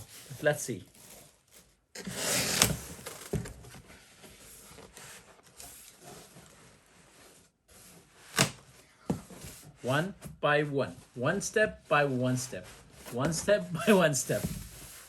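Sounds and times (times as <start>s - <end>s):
cardboard scraping and rustling: 0.0s - 10.4s, 11.2s - 15.0s.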